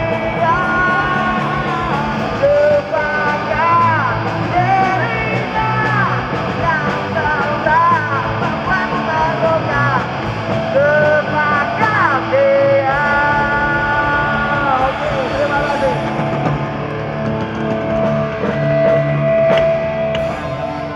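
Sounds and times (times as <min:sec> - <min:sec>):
person singing: 0:00.0 - 0:16.8
drums: 0:00.0 - 0:20.9
electric guitar: 0:00.0 - 0:20.9.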